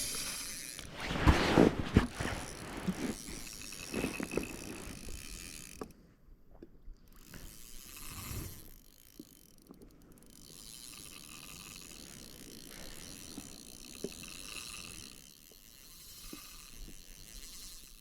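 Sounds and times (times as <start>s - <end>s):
fishing reel being cranked: 0.0s - 1.1s, 1.7s - 6.0s, 7.0s - 18.0s.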